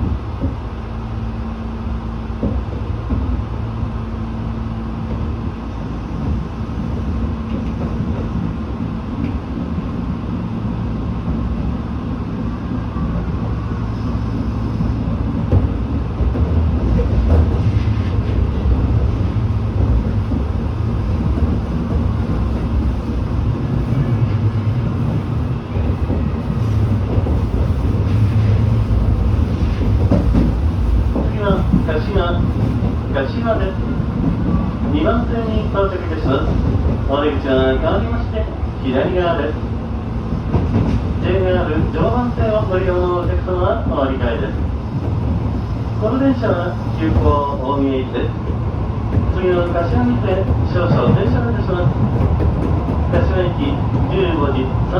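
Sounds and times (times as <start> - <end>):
train rumbling on track: 0.0 - 54.9.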